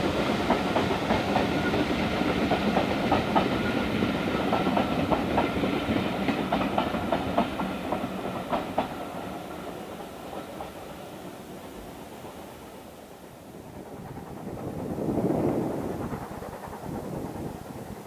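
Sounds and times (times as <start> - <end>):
train rumble: 0.0 - 18.0
train wheels clicking over rail joints: 0.0 - 18.0.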